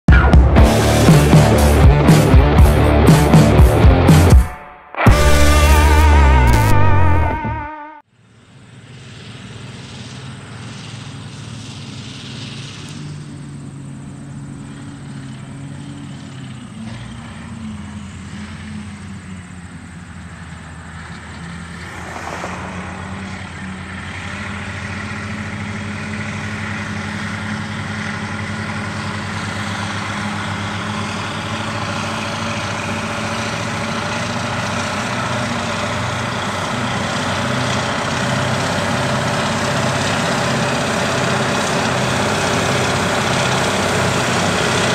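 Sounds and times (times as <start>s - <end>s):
diesel engines running under load: 0.1s - 4.4s, 8.1s - 44.9s.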